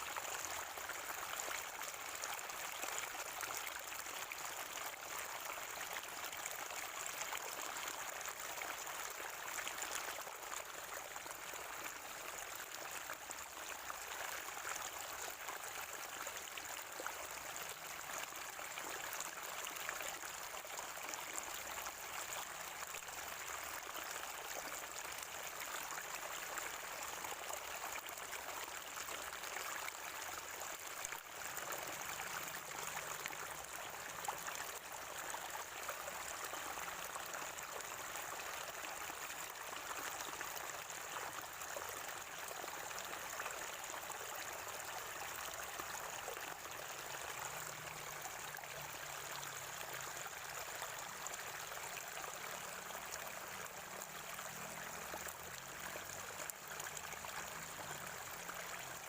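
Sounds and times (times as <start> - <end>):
spring water gurgling: 0.0 - 59.0.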